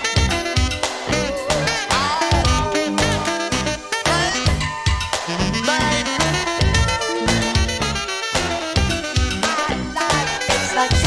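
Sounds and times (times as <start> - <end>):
soul dance music with beat: 0.7 - 11.0.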